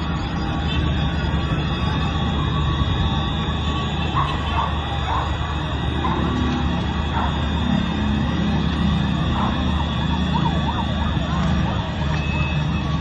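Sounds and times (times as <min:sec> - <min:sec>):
emergency sirens wailing: 0:00.0 - 0:13.0.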